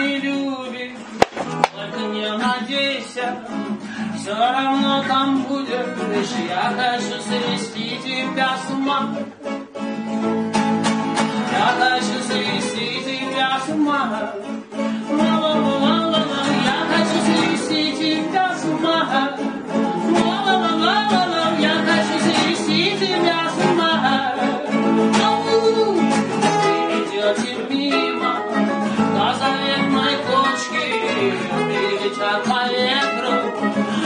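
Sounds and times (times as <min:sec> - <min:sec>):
man singing: 0:00.0 - 0:09.6, 0:11.3 - 0:34.0
acoustic guitar: 0:00.0 - 0:34.0.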